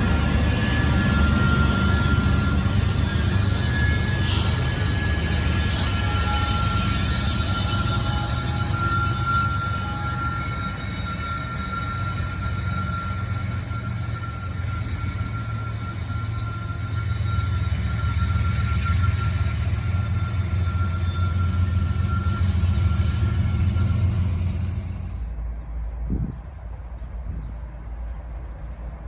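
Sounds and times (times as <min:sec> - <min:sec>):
wheel squeal: 0:00.0 - 0:25.2
train wheels rumbling on rail: 0:00.0 - 0:29.0.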